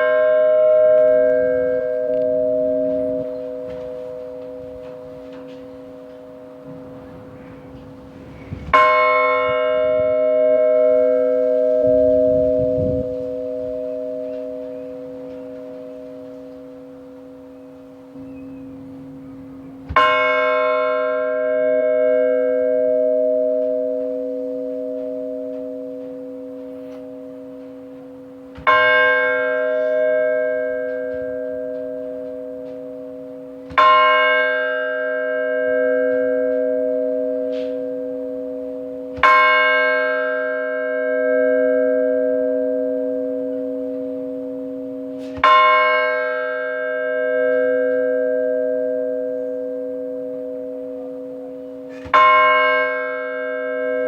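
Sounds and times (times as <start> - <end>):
large church bell tolling: 0.0 - 54.0.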